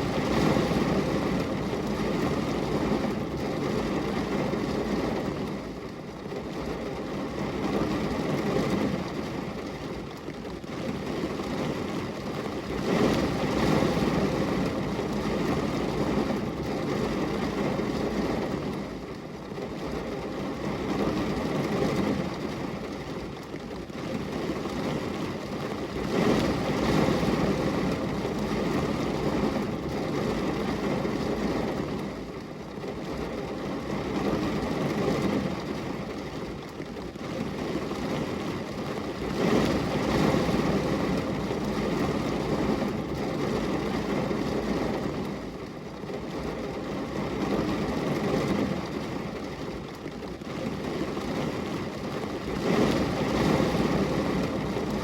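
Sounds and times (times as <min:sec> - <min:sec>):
rain on a glass window: 0:00.0 - 0:55.0.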